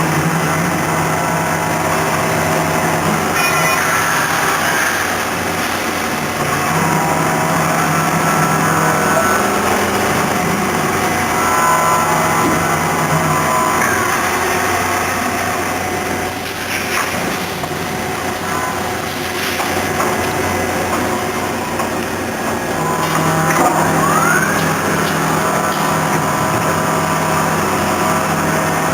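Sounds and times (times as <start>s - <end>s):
machine mechanical hum: 0.0s - 28.9s
motor whines: 0.0s - 28.9s.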